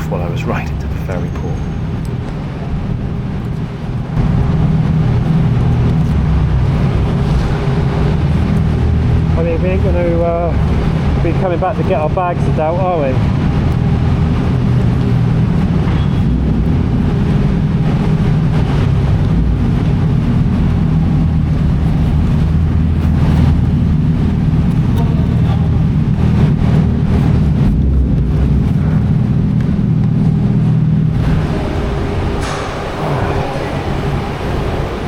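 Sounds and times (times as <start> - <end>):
low mechanical drone: 0.0 - 35.0.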